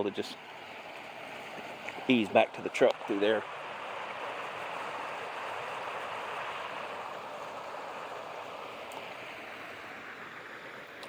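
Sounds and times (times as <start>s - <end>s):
floodwater rushing down creek: 0.0s - 11.0s.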